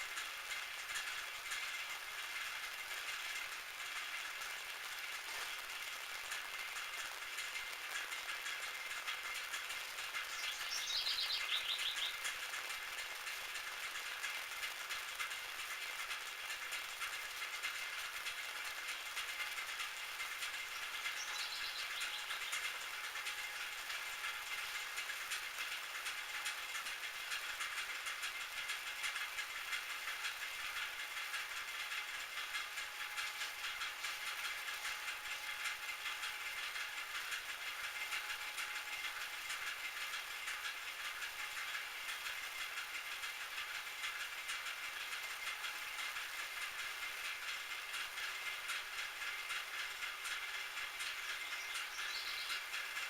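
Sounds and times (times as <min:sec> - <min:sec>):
rapid crackling hiss: 0:00.0 - 0:53.0.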